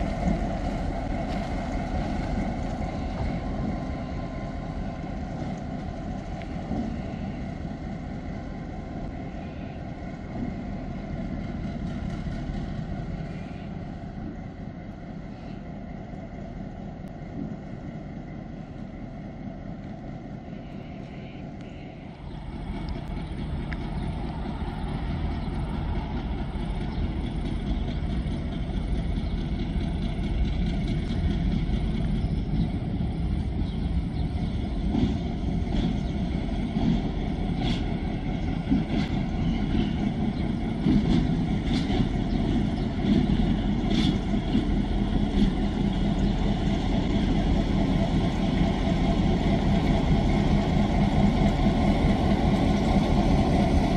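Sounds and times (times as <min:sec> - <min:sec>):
train wheels clattering on track: 0:00.0 - 0:18.9, 0:19.6 - 0:53.9
diesel locomotive engine rumble: 0:00.0 - 0:53.9.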